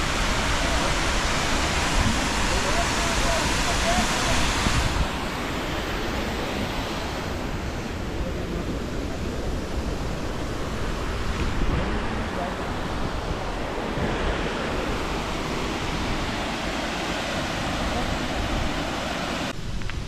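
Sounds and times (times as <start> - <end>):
waterfall rushing: 0.0 - 19.6
wind rumbling on microphone: 0.0 - 20.0.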